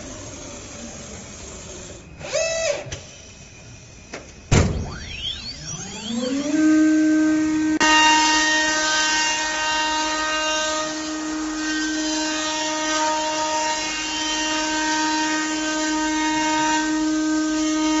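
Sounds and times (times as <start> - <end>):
router spindle high whine: 0.0 - 18.0.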